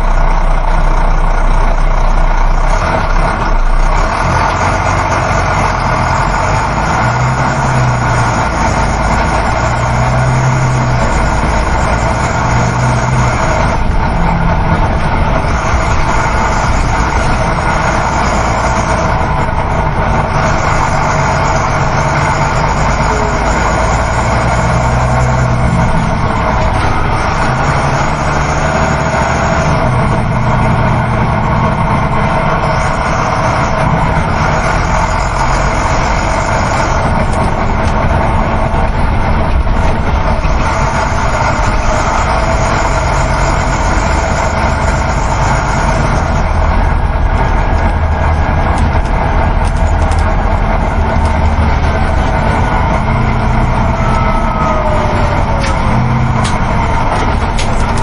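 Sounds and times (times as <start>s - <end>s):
bus engine drone: 0.0s - 58.0s
road and wind noise: 0.0s - 58.0s.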